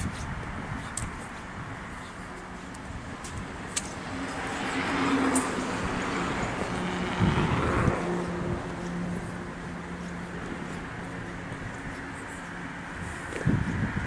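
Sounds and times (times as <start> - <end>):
car passing: 2.4 - 14.0.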